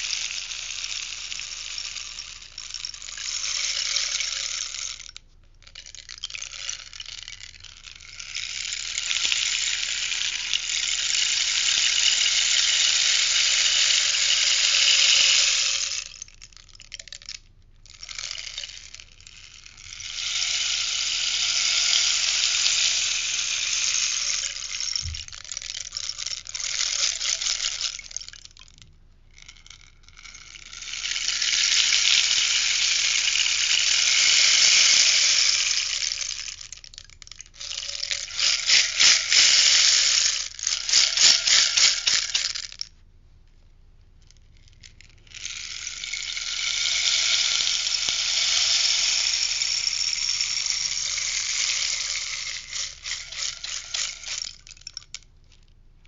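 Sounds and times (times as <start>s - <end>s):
rainstick beads rattling: 0.0s - 43.0s, 44.2s - 55.7s.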